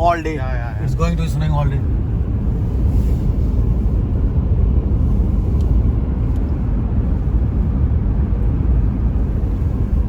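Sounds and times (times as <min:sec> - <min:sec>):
car driving engine and tyre noise: 0:00.0 - 0:10.0.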